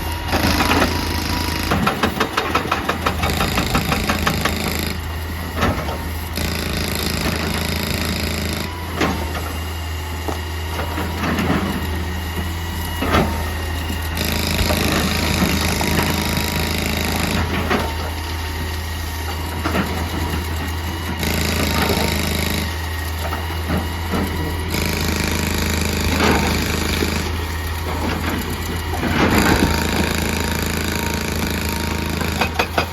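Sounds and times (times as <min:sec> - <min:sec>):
diesel engine under load: 0:00.0 - 0:32.9.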